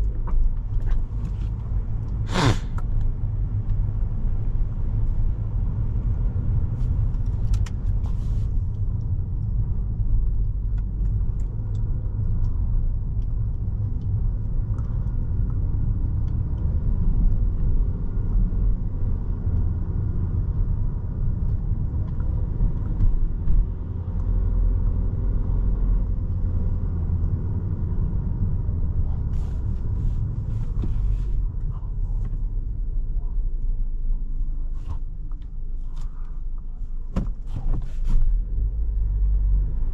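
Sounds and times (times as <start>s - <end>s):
car engine: 0.0s - 39.9s
road and tyre rumble: 0.0s - 39.9s.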